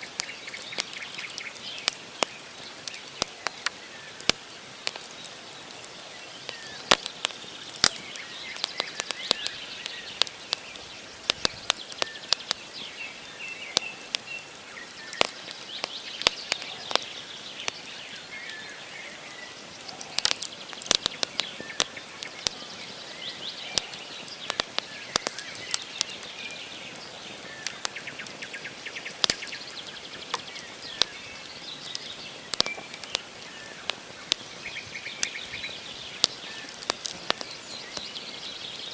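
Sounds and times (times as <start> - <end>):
campfire crackling: 0.0 - 38.9
hiss of flames: 0.0 - 38.9
sharp pops from burning logs: 0.0 - 38.9
small birds chirping: 0.0 - 38.9.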